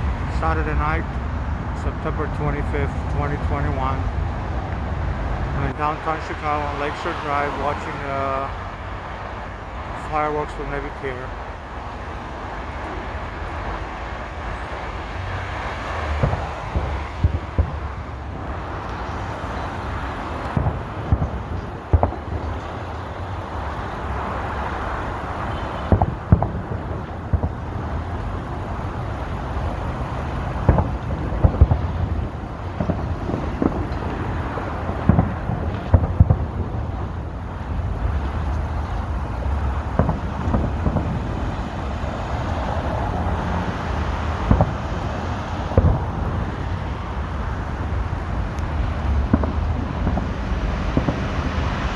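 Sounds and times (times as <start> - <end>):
fireworks bangs: 0.0 - 51.9
road traffic rumble: 0.0 - 51.9
wind: 0.0 - 51.9.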